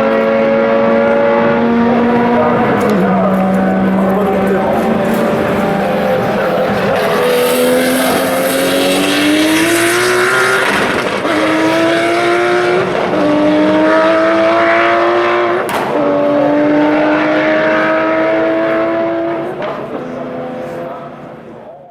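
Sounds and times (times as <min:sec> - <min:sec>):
racing car accelerating: 0:00.0 - 0:21.9.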